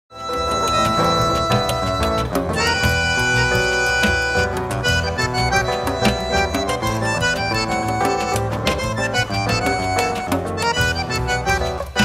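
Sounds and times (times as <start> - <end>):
instrumental music with quick beat: 0.1 - 12.0.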